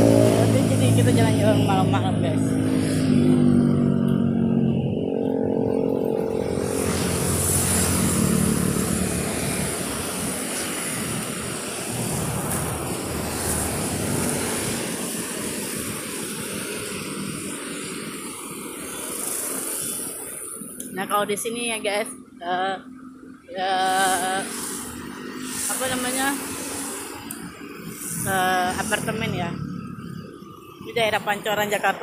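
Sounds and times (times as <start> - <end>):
rushing hiss of passing traffic: 0.0 - 4.4, 6.0 - 21.5, 23.0 - 32.0
vehicle engine droning: 0.0 - 32.0.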